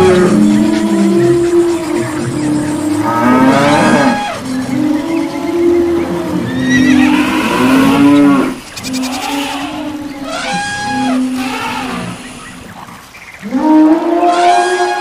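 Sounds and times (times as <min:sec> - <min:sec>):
cattle mooing: 0:00.0 - 0:12.4, 0:13.4 - 0:15.0
higher wavering animal calls: 0:00.0 - 0:15.0.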